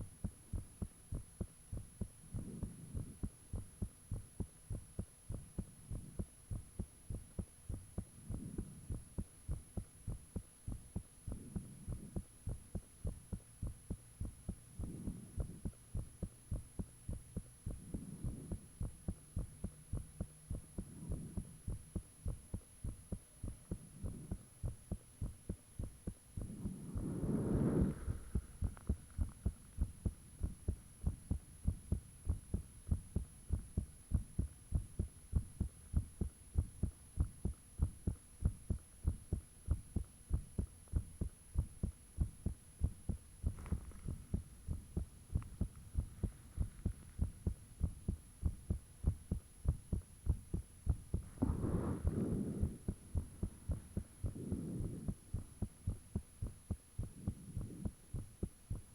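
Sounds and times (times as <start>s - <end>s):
heartbeat thumps: 0.0s - 58.9s.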